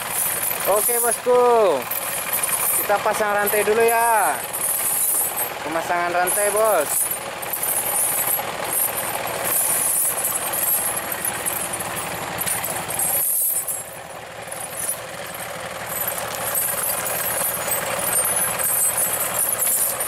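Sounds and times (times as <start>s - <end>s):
truck engine idling with rattle: 0.0s - 20.0s.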